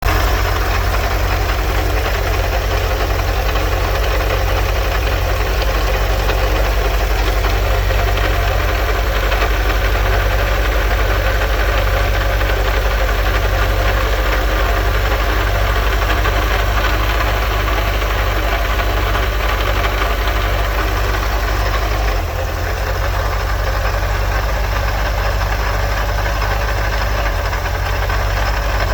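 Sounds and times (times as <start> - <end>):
van engine running: 0.0 - 28.9.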